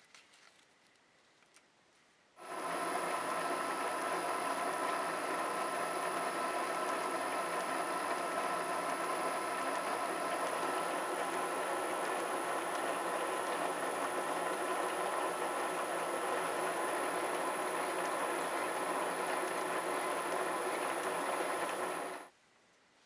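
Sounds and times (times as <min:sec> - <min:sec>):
machine tool running: 0:02.4 - 0:22.3.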